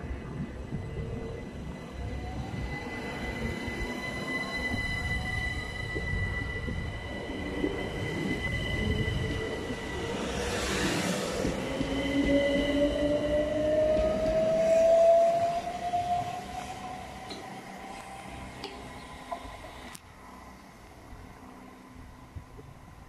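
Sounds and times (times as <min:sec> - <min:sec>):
steady high squeal: 0:00.8 - 0:20.6.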